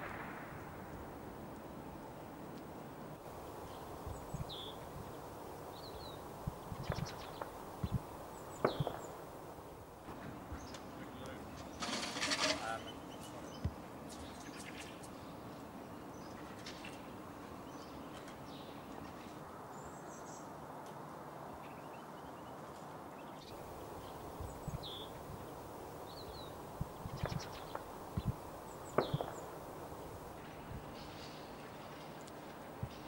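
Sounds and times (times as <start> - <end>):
low background noise: 0.0 - 33.0
birds chattering: 3.2 - 20.5, 21.6 - 33.0.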